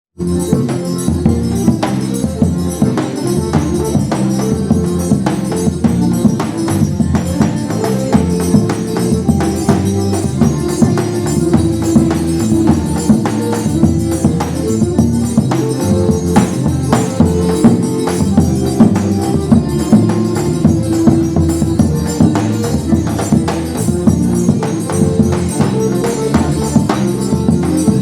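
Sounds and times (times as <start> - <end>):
accordion melody: 0.2 - 28.0
drum beats: 0.2 - 28.0
jingling metallic percussion: 0.2 - 28.0.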